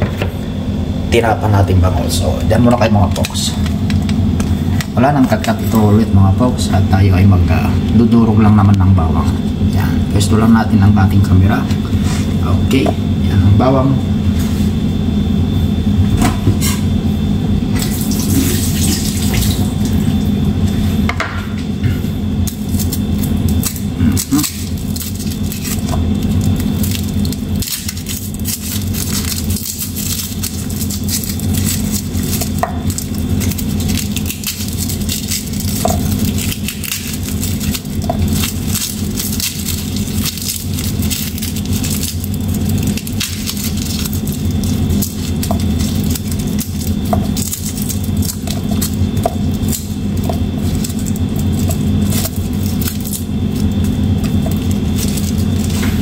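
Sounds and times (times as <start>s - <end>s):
steady low hum: 0.0s - 56.0s
dry garlic skins crackling: 1.6s - 12.9s, 17.7s - 21.0s, 22.2s - 56.0s.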